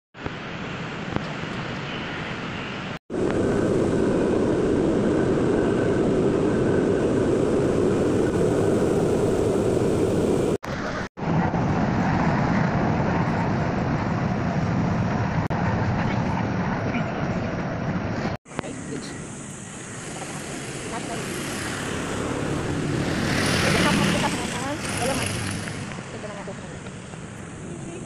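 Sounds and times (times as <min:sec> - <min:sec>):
moving train rumbling: 0:03.1 - 0:28.0.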